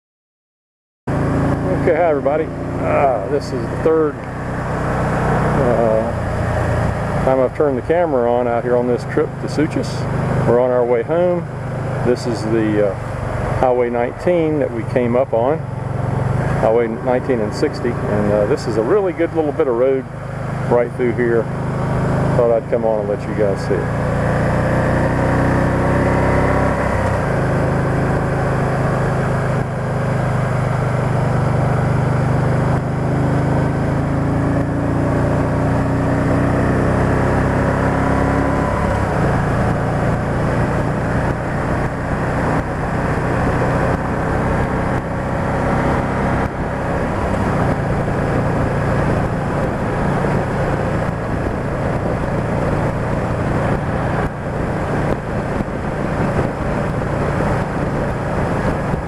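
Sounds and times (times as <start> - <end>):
motorcycle engine running: 1.1 - 59.0
road and wind rumble: 1.1 - 59.0.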